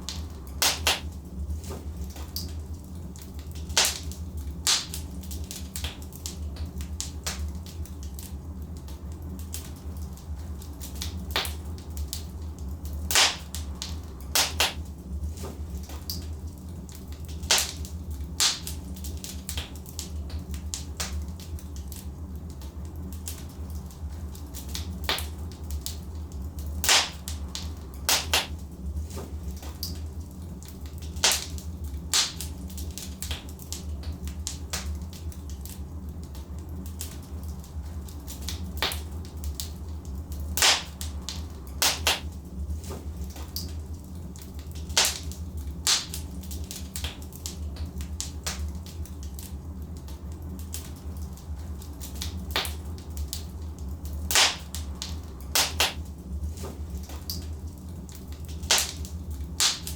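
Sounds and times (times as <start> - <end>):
fire low rumble: 0.0 - 59.9
logs crackling and popping: 0.0 - 59.9.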